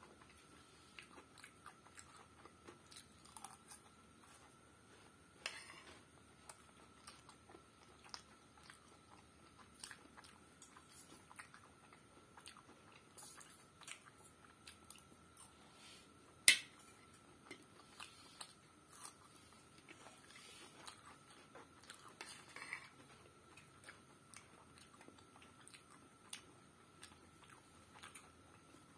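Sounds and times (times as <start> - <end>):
person chewing: 0.0 - 4.6, 5.5 - 15.6, 17.1 - 28.9.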